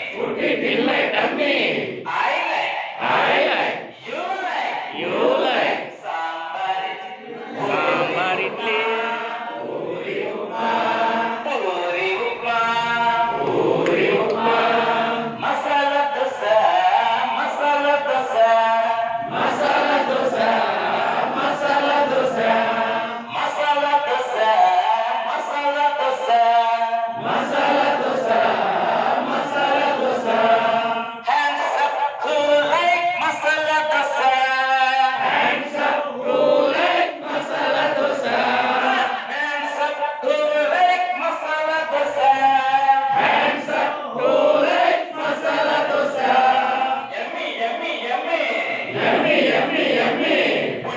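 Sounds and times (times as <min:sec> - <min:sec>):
group of adults chanting: 0:00.0 - 0:50.9.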